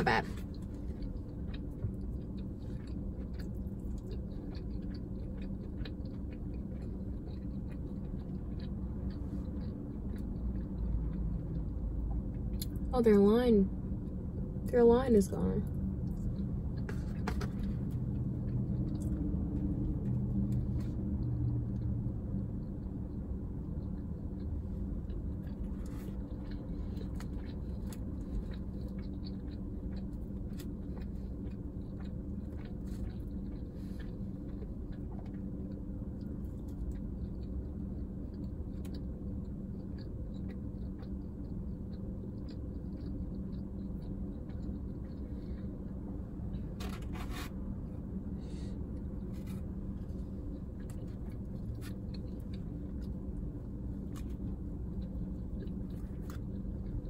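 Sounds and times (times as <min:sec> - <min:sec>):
person chewing fries: 0:00.0 - 0:12.9, 0:15.6 - 0:57.0
low hum inside car cabin: 0:00.0 - 0:57.0.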